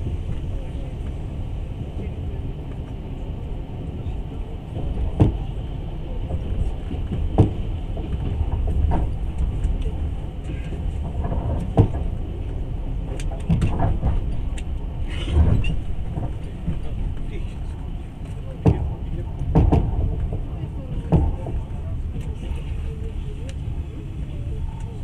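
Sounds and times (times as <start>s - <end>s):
train knocks and rattles: 0.0s - 25.0s
train wheels rumbling on rails: 0.0s - 25.0s.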